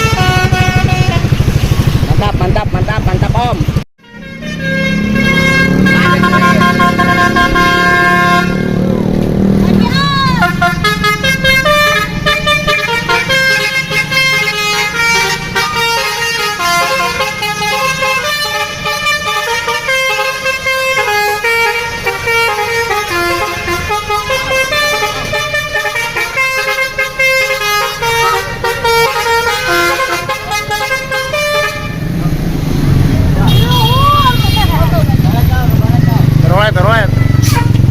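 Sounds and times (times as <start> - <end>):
bus multi-tone horn melody: 0.0 - 1.5, 4.0 - 32.3, 33.4 - 35.2, 37.2 - 37.9.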